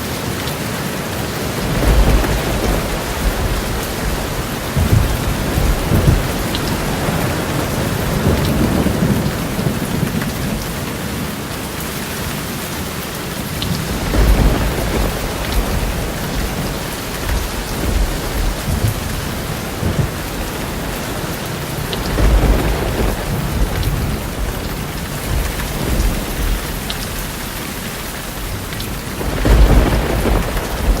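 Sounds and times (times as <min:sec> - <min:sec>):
steady rain falling: 0:00.0 - 0:31.0
rolling thunder rumbles: 0:01.1 - 0:11.8, 0:13.4 - 0:31.0.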